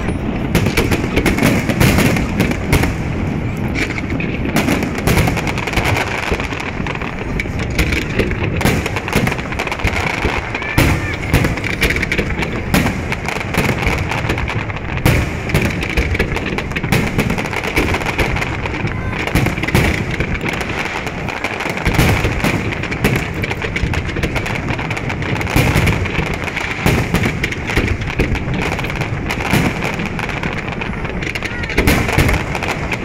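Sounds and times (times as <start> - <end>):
fireworks bangs and crackle: 0.0 - 33.0.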